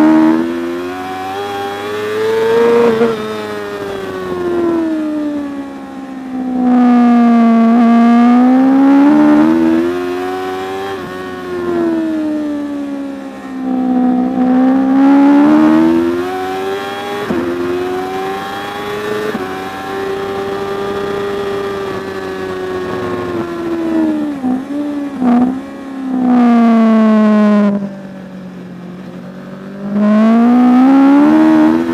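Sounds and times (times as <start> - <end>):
racing motorcycle engine: 0.0 - 31.9.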